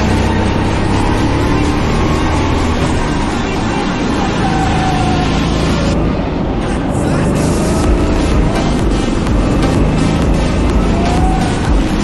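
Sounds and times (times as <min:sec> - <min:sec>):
background music: 0:00.0 - 0:12.0
go-kart engine running: 0:00.0 - 0:12.0.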